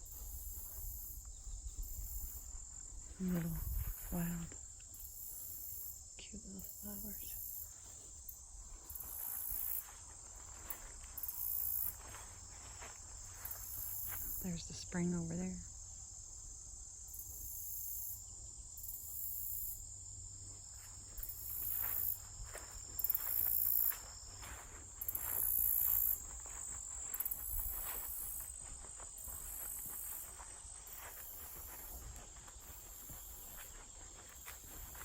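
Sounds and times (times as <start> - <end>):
footsteps on forest path: 0.0 - 5.6, 7.0 - 15.2, 20.4 - 35.0
insects droning: 0.0 - 35.0
pulsing insect chorus: 0.0 - 35.0.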